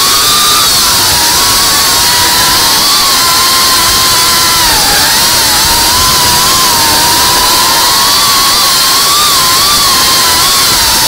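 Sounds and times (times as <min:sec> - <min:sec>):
drone motors whirring: 0:00.0 - 0:11.0.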